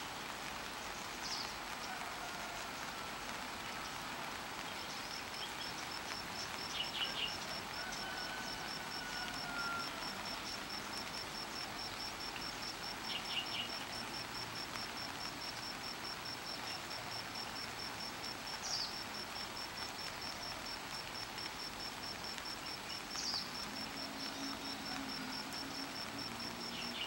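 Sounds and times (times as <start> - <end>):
background hiss: 0.0 - 27.0
insect chirping: 3.3 - 27.0.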